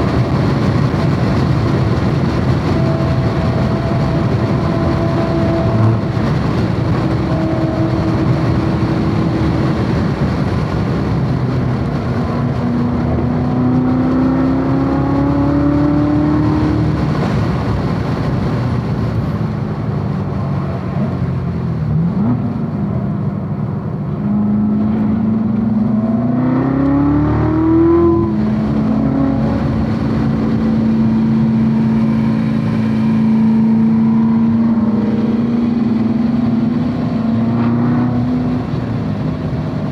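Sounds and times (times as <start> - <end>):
car engine revving: 0.0 - 39.9
wind and road noise: 0.0 - 39.9.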